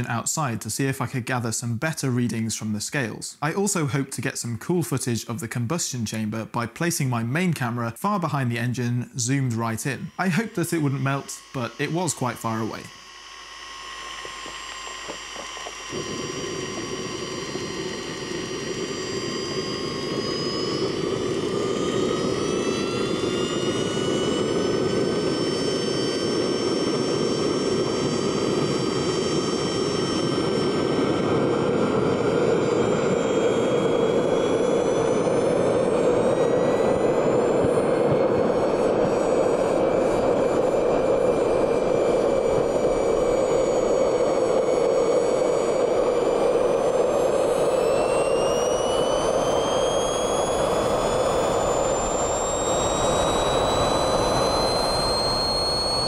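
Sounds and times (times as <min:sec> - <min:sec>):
turbojet engine whining and roaring: 0:00.0 - 0:56.0.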